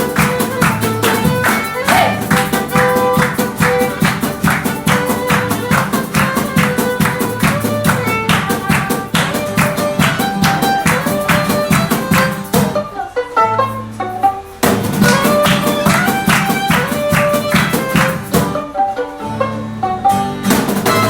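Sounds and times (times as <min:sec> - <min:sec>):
string band playing: 0:00.0 - 0:21.0.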